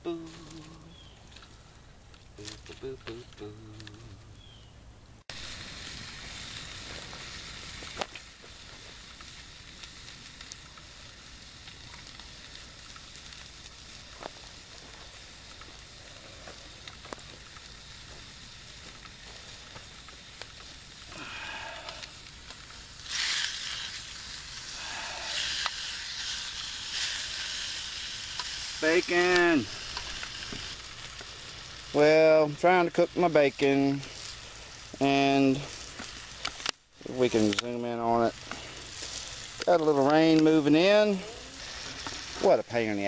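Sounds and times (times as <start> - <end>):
campfire wood popping and crackling: 0.0 - 43.0
bacon sizzling in a tin: 5.3 - 43.0.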